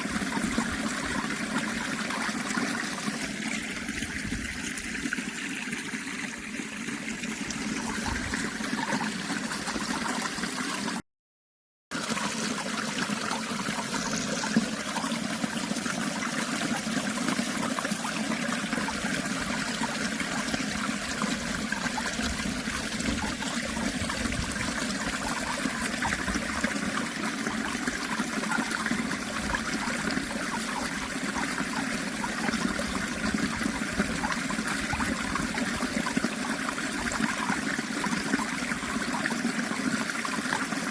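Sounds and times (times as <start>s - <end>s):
stream water flowing: 0.0s - 11.0s, 11.9s - 40.9s.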